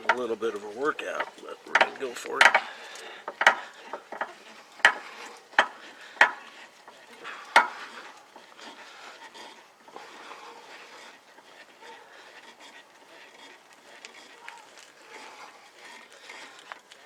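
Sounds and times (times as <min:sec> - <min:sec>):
jack scraping and creaking: 0:00.0 - 0:17.0.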